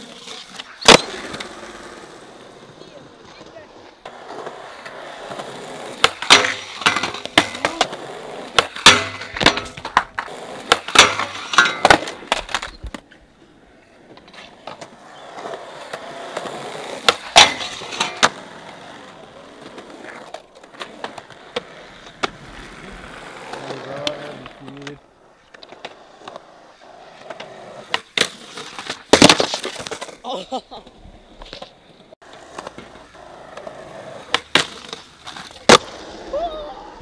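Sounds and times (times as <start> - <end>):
skateboard wheels rolling: 0.0 - 37.0
skateboards clacking on concrete: 0.0 - 37.0.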